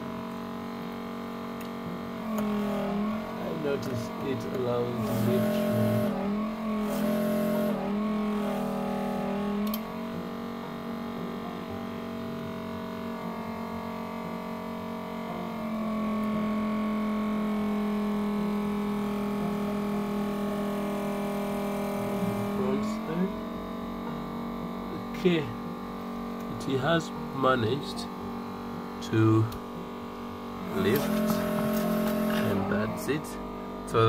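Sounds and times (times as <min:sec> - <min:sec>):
vacuum pump humming: 0:00.0 - 0:34.0.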